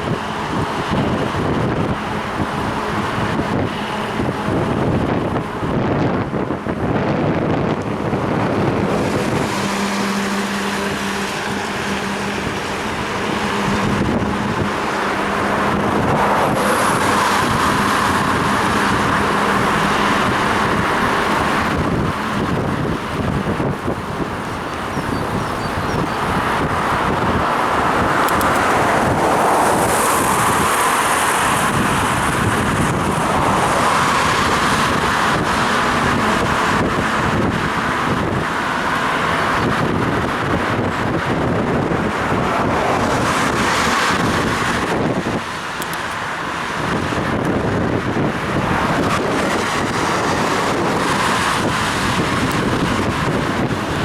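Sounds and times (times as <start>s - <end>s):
engine hum: 0.0s - 54.0s
road traffic on wet street: 0.0s - 54.0s
vehicles passing: 0.0s - 54.0s
wind buffeting microphone: 0.0s - 54.0s.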